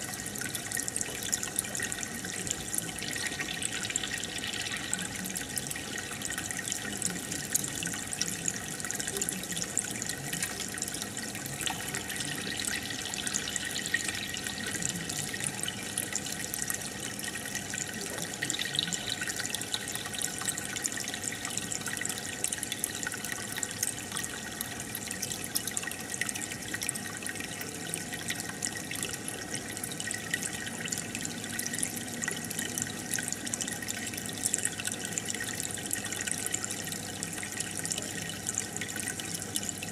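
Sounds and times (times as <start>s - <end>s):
aquarium air bubbles: 0.0s - 39.9s.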